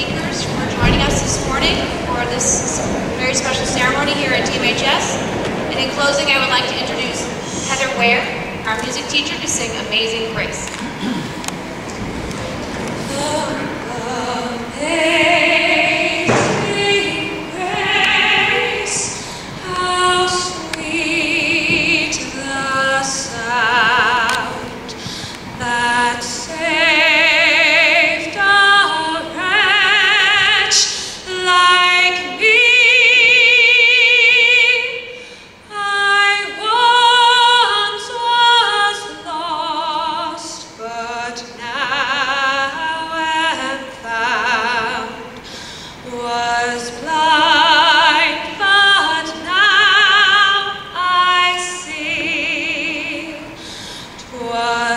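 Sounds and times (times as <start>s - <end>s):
woman singing into a microphone: 0.0s - 11.0s, 12.9s - 54.9s.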